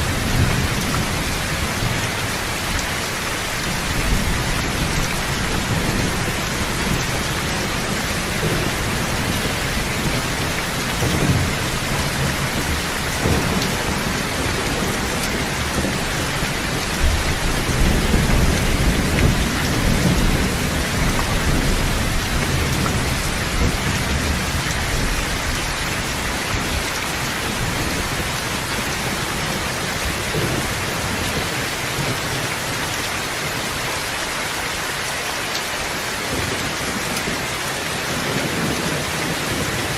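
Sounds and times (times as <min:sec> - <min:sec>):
heavy rain falling: 0:00.0 - 0:39.9
low rolling thunder: 0:03.6 - 0:33.0, 0:36.3 - 0:39.9.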